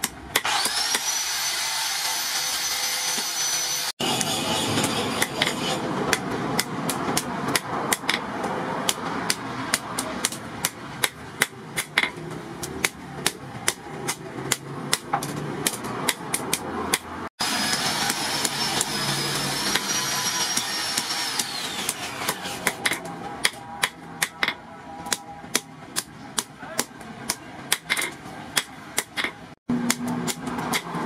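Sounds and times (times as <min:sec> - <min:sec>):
hammer beating hot steel: 0:02.4 - 0:31.0.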